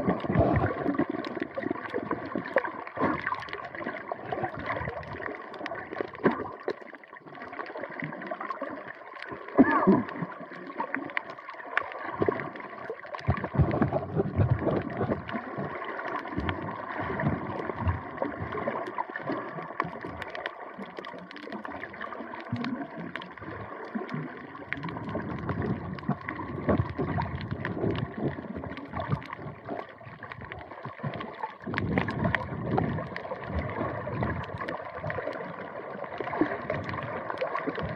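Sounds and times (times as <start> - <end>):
water sloshing and gurgling: 0.0 - 37.9.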